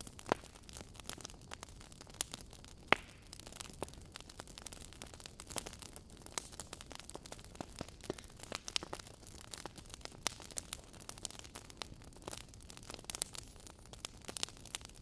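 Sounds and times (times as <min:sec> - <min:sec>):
logs crackling and popping: 0:00.0 - 0:15.0.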